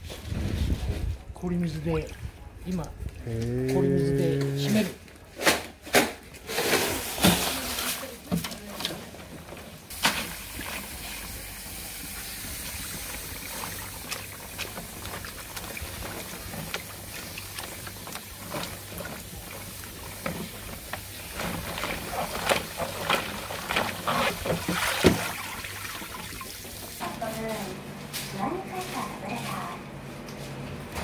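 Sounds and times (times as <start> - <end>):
ice water sloshing in tub: 0.5 - 29.7.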